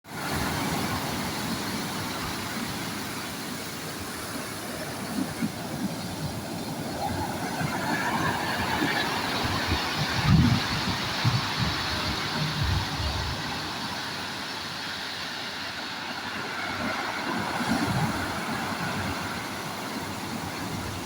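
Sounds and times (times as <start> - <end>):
sea waves washing onto shore: 0.1 - 21.0.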